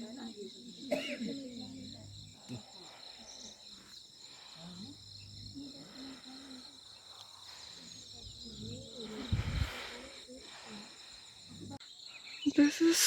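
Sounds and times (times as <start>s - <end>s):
faint murmuring: 0.0s - 11.8s
crickets chirping: 0.0s - 13.0s.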